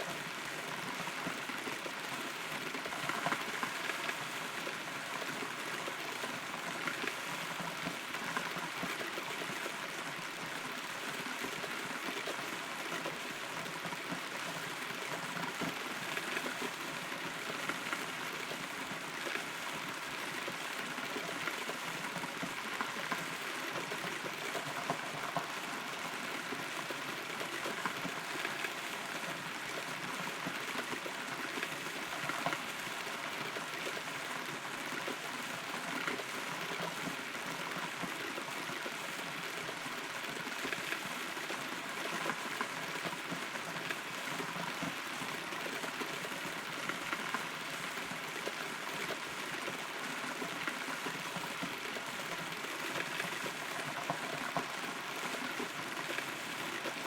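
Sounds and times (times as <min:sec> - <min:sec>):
rain pattering on wood and leaves: 0:00.0 - 0:57.0.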